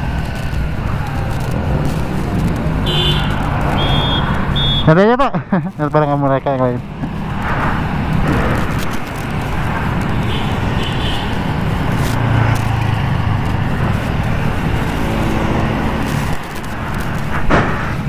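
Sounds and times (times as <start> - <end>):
street traffic: 0.0 - 18.0.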